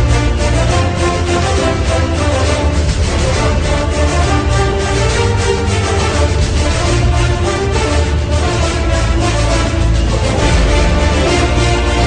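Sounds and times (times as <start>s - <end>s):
background music with beat and bass: 0.0s - 12.0s.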